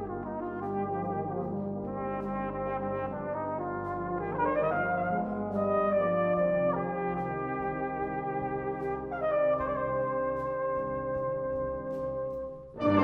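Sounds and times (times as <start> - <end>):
brass band playing chords: 0.0 - 13.0.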